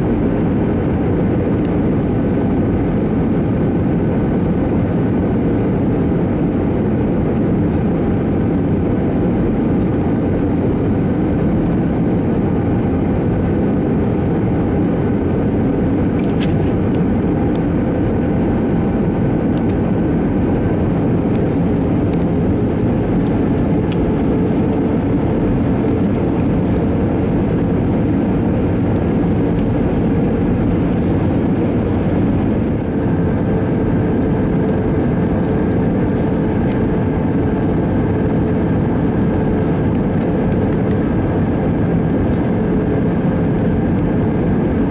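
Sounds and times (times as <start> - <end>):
aircraft engines and airflow roar: 0.0 - 44.9.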